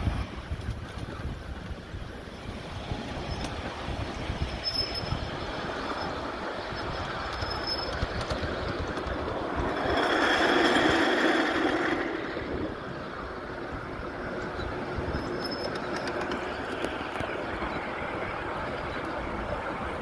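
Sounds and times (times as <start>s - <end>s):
miniature train rolling on rails: 0.0s - 20.0s.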